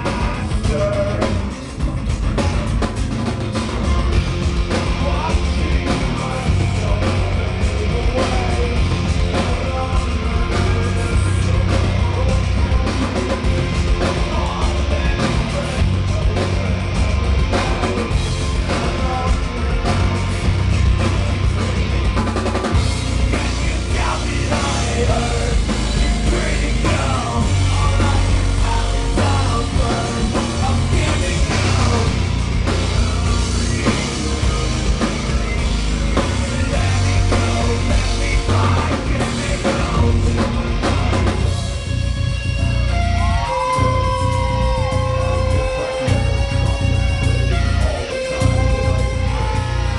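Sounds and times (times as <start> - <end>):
live metal band playing: 0.0 - 49.9
singer's vocals: 0.0 - 49.9.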